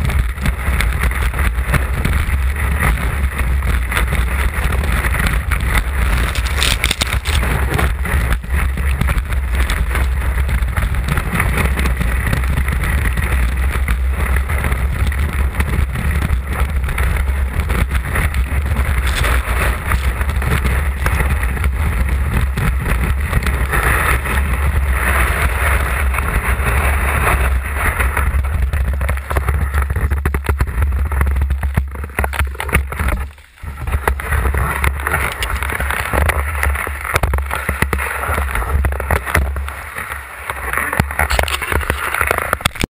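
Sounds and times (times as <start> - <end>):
skis scraping over snow: 0.0 - 42.9
wind rumble on microphone: 0.0 - 42.9.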